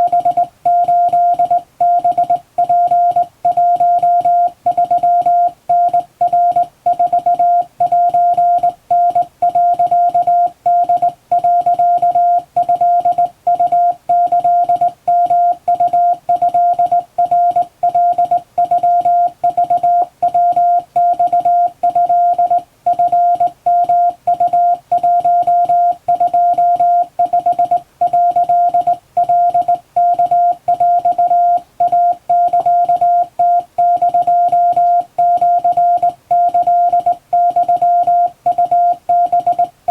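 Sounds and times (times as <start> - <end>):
morse code beeping tone: 0.0 - 39.9.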